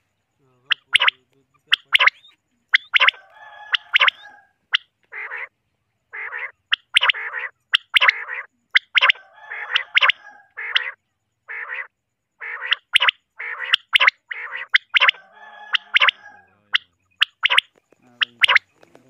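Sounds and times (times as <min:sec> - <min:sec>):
quail calling: 0:00.0 - 0:19.0.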